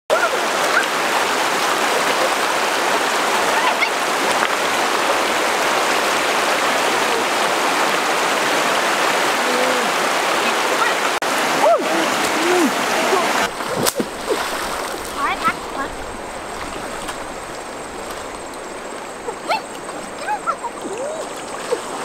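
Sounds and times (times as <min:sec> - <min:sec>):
river water rushing: 0:00.1 - 0:22.0.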